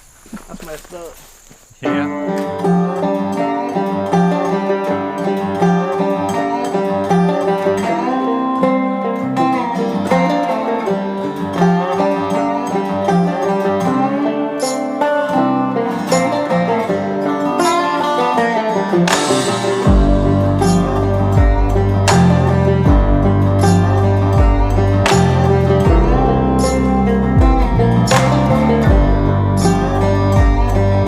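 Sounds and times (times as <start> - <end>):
bluegrass banjo and guitar music: 1.8 - 31.0.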